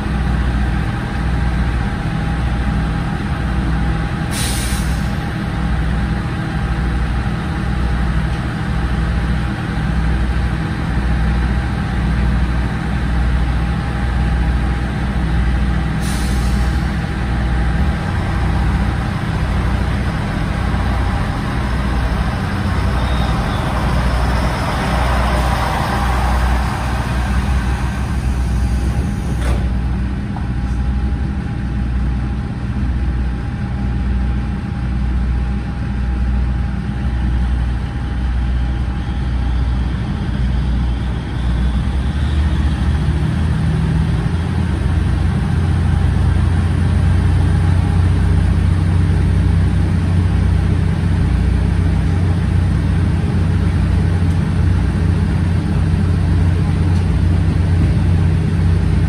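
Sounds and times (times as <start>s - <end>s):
diesel railcar engine running: 0.0s - 59.0s
rush of passing train: 0.0s - 59.0s.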